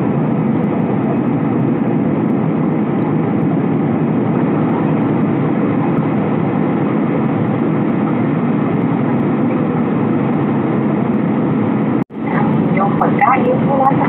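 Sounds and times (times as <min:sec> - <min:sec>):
jet cabin engine and airflow noise: 0:00.0 - 0:14.0.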